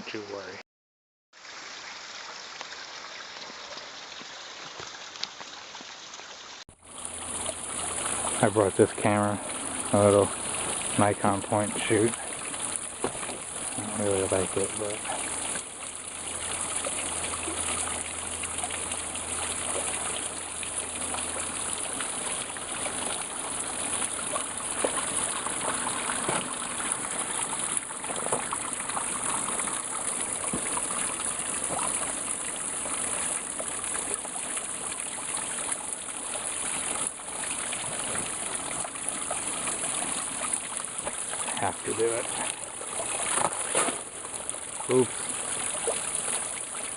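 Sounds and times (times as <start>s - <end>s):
stream water running: 1.4s - 46.9s.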